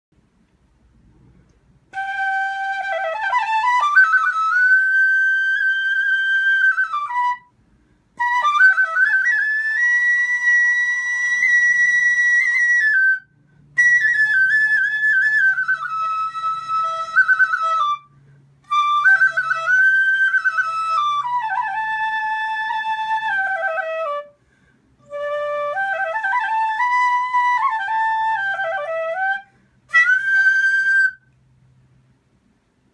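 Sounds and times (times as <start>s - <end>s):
bamboo flute melody: 1.8s - 24.4s, 25.0s - 31.4s.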